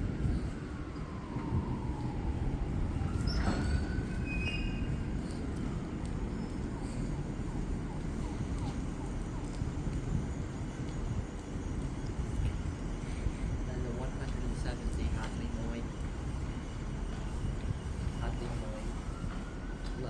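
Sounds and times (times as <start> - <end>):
train wheels rumbling on rails: 0.0 - 20.0
train wheel squeals: 0.2 - 20.0.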